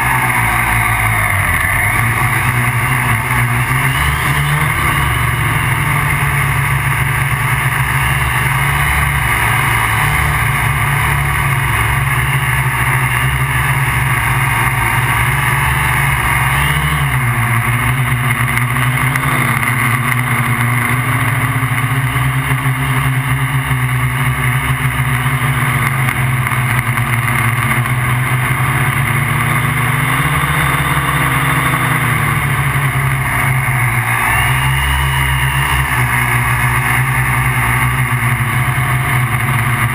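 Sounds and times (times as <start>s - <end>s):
quadcopter motors buzzing: 0.0s - 39.9s.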